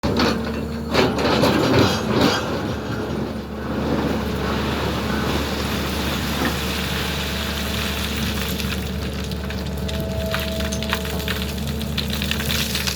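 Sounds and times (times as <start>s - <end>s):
excavator bucket scraping and knocking: 0.0s - 12.9s
excavator diesel engine running: 0.0s - 12.9s.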